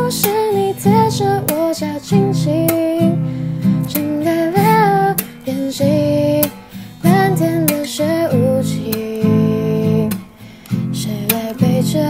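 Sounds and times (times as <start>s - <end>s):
acoustic guitar strummed and picked: 0.0s - 12.0s
woman singing: 0.0s - 12.0s.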